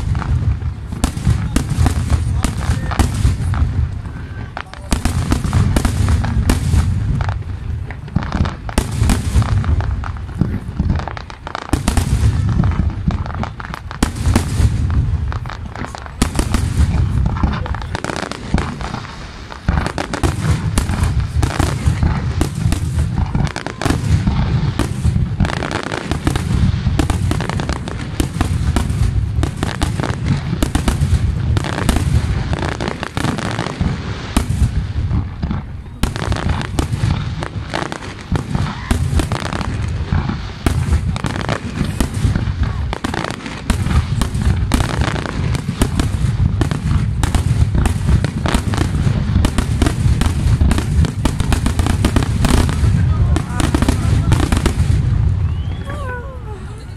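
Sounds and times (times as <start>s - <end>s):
firework booms: 0.0s - 56.9s
firework crackling: 0.0s - 56.9s.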